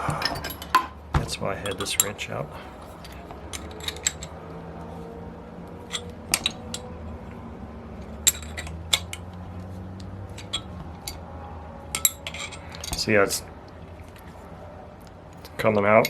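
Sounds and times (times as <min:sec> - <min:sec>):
metal tools clinking: 0:00.0 - 0:14.4
low steady hum: 0:00.0 - 0:16.0.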